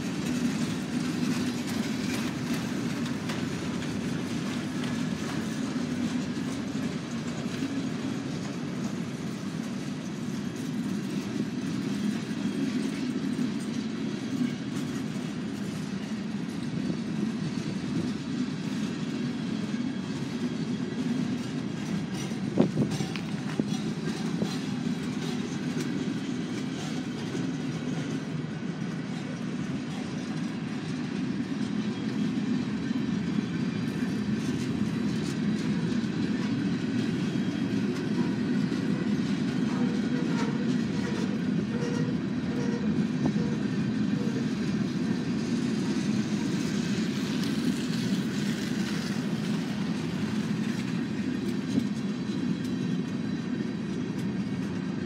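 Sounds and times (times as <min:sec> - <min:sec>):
clicking over rail joints: 0:00.0 - 0:55.0
train wheels rumbling on rails: 0:00.0 - 0:55.0.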